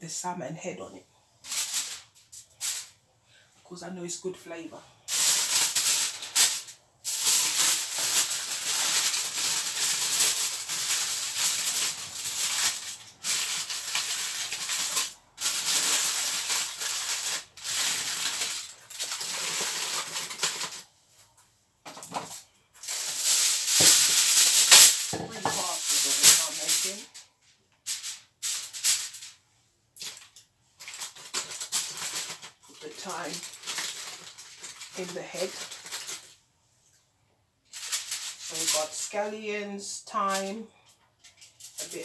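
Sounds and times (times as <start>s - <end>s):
aluminium foil crinkling: 1.4s - 3.0s, 5.0s - 21.3s, 21.9s - 29.4s, 30.0s - 36.4s, 37.7s - 39.2s, 40.3s - 42.0s.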